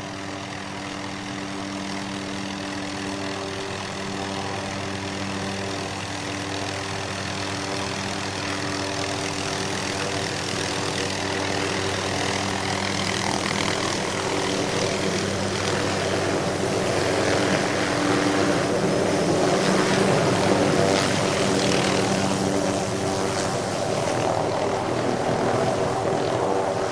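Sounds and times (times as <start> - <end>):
helicopter engine and rotor drone: 0.0 - 26.9.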